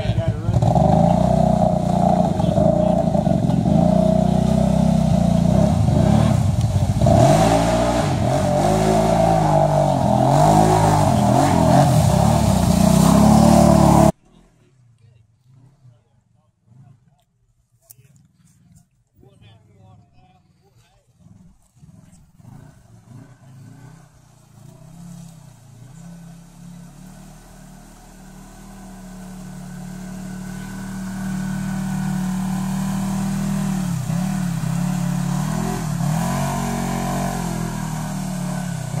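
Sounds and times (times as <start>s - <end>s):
off-road vehicle engine revving: 0.0s - 14.8s, 15.4s - 17.4s, 18.0s - 39.0s.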